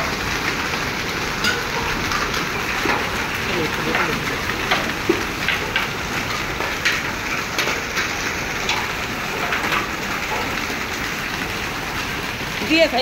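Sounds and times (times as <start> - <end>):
rain and hail falling: 0.0 - 13.0.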